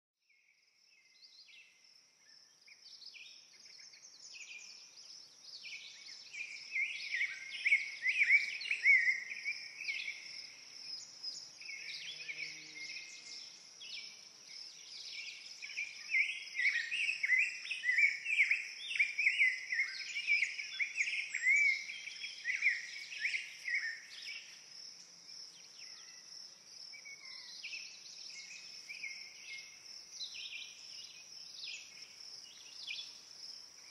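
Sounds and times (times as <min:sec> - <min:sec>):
birds chirping and trilling: 0:01.0 - 0:33.9.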